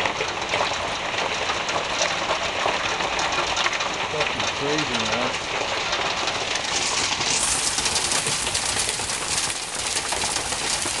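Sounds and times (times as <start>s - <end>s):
hail pelting a wooden deck: 0.0s - 11.0s.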